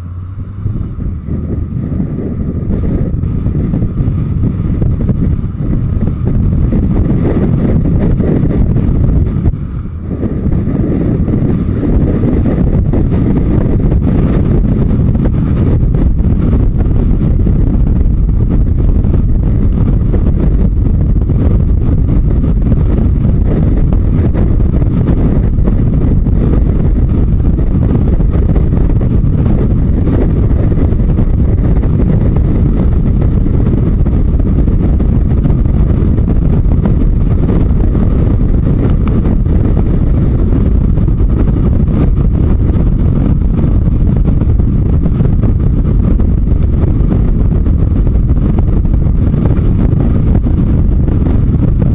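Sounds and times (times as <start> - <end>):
motorcycle engine running: 0.0 - 51.9
wind on microphone: 0.0 - 51.9.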